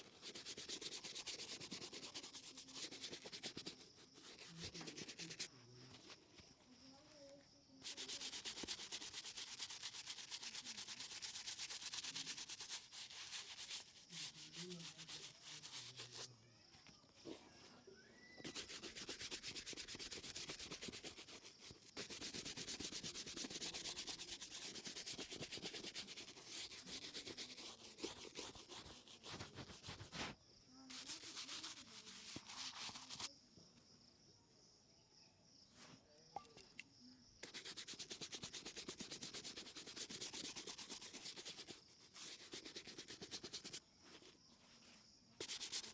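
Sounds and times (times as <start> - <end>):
shoe being buffed: 0.0 - 6.2, 7.9 - 16.3, 18.3 - 33.3, 37.4 - 44.4, 45.4 - 45.9.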